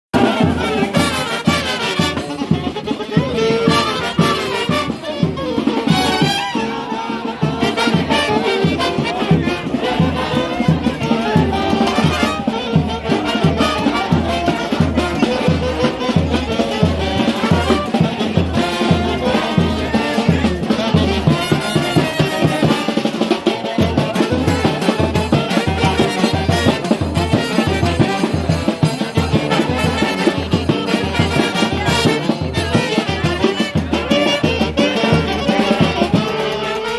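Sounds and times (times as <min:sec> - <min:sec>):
brass band playing a march: 0:00.2 - 0:36.9.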